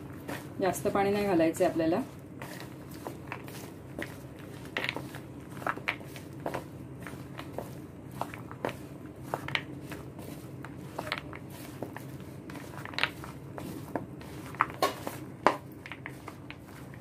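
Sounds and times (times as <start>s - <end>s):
spatula scraping peanuts in bowl: 0.0s - 17.0s
steady low hum: 0.0s - 17.0s.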